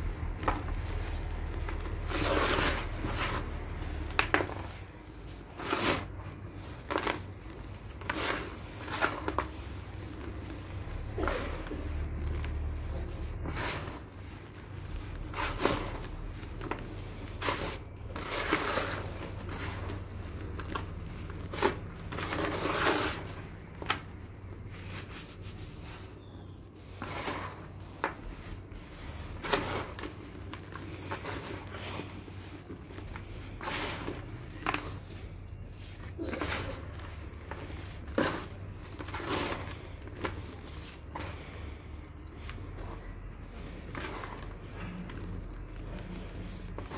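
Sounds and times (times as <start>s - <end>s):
hands crunching dry cement mix: 0.0s - 46.9s.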